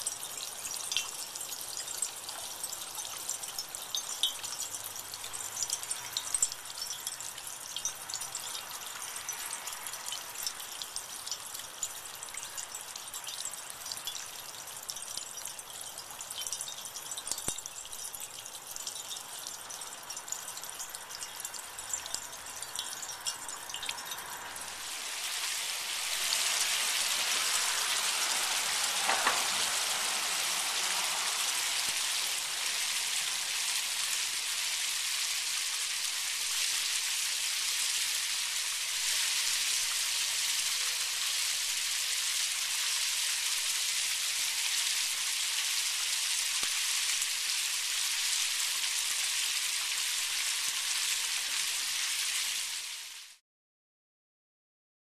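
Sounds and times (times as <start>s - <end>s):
water splashing through rain chain: 0.0s - 53.4s.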